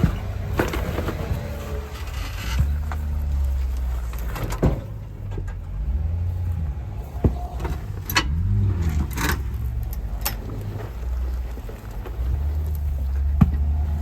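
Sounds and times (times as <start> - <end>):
off-road vehicle engine revving: 0.0 - 14.0
sharp knocks and clunks: 0.0 - 14.0.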